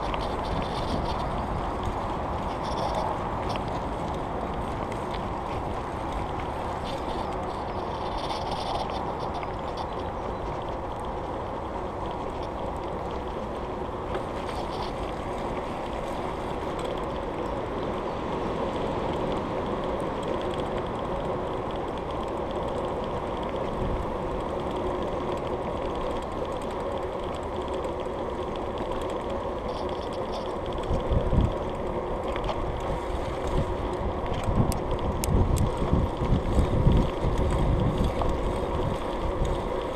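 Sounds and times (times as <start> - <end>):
bicycle tyres rolling on tarmac: 0.0 - 39.9
wind buffeting microphone: 0.0 - 39.9.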